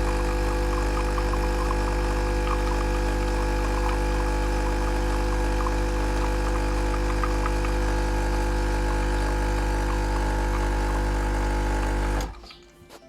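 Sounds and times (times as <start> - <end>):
espresso machine pump humming: 0.0 - 12.4.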